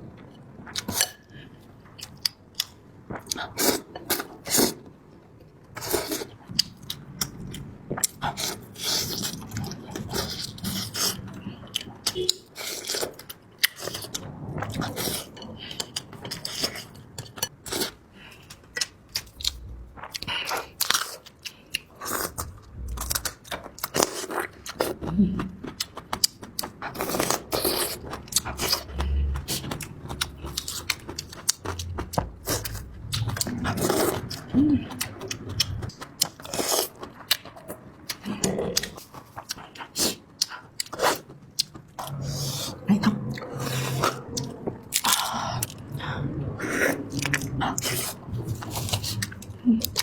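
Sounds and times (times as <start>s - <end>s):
chewing noodles: 5.7s - 50.0s.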